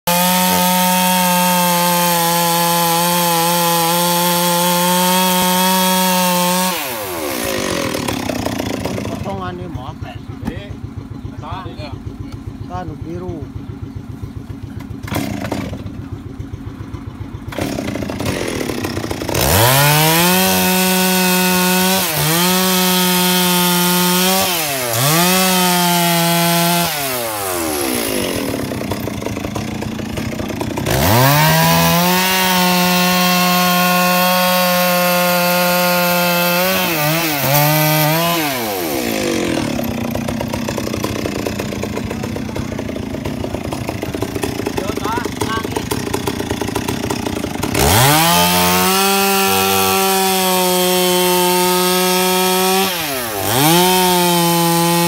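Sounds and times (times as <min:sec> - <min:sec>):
chainsaw cutting logs at full throttle: 0:00.0 - 0:55.0
chainsaw idling: 0:00.1 - 0:55.0.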